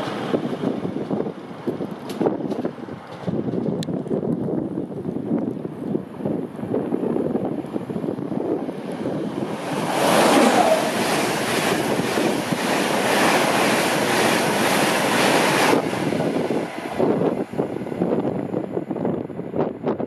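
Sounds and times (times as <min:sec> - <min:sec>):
express train passing: 0:00.0 - 0:20.0
wind buffeting microphone: 0:00.0 - 0:20.0.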